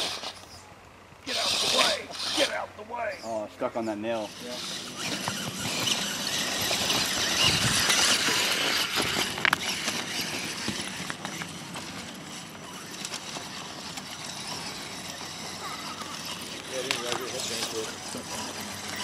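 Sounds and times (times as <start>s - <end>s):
toy truck scrabbling over ground: 0.0s - 0.6s, 1.3s - 19.0s.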